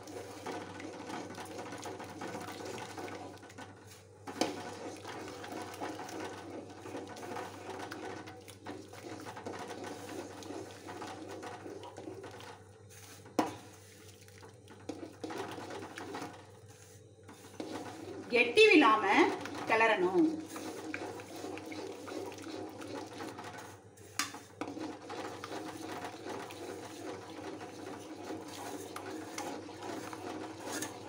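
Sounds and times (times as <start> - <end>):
ladle stirring water in a pan: 0.0 - 31.0.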